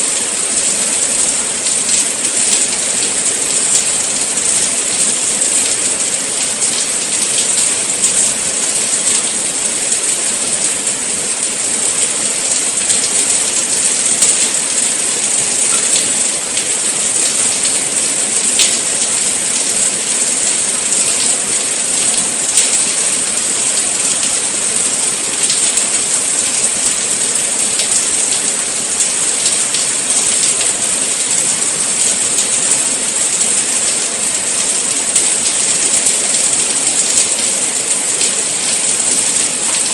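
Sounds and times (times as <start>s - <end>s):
rain drop ticks: 0.0s - 39.9s
steady rain falling: 0.0s - 39.9s.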